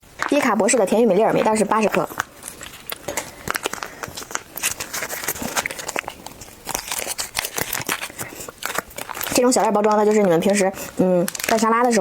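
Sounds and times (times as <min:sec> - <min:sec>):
packet crinkling: 0:00.2 - 0:12.0.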